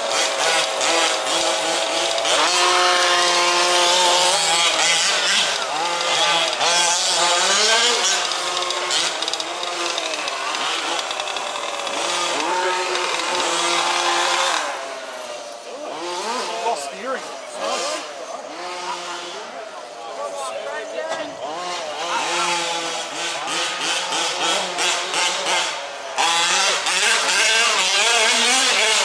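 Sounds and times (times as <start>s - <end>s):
small two-stroke engines revving: 0.0s - 29.0s.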